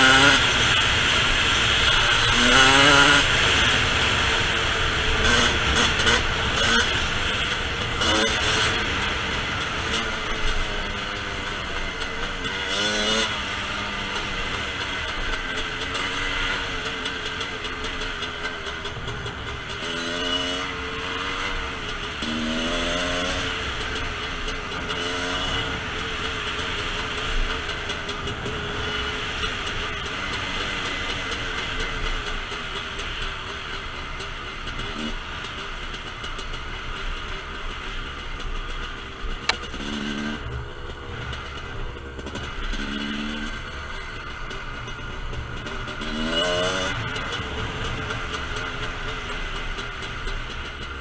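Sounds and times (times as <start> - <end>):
dirt bike engine revving: 0.0 - 32.2, 39.3 - 51.0.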